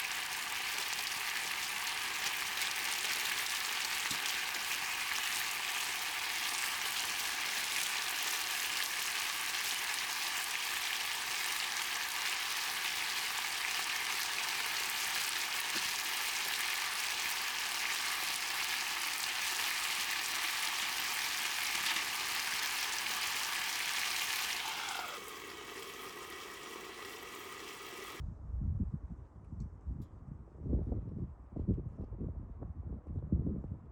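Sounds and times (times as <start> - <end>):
food sizzling in a pan: 0.0 - 28.2.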